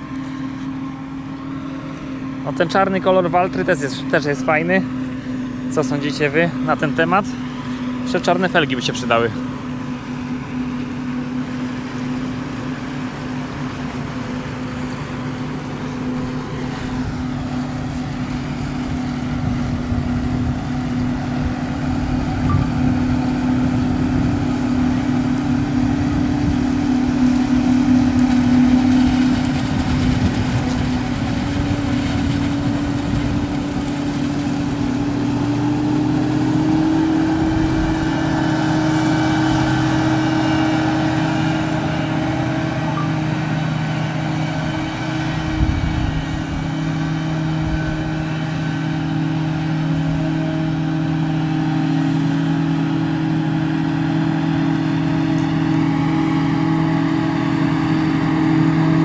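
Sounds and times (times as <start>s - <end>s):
harvester machine drone: 0.0s - 59.0s.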